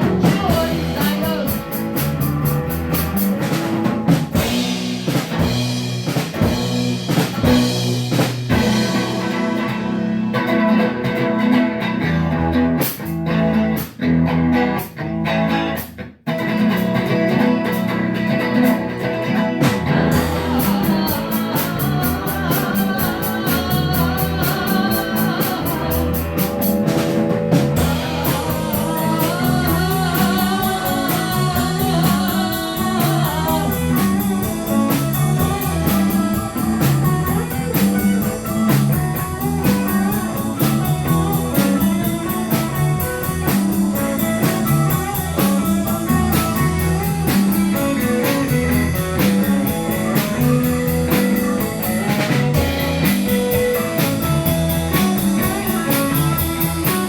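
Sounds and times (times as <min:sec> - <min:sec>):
steady drum beat: 0:00.0 - 0:10.9, 0:19.6 - 0:57.0
rock band playing: 0:00.0 - 0:57.0.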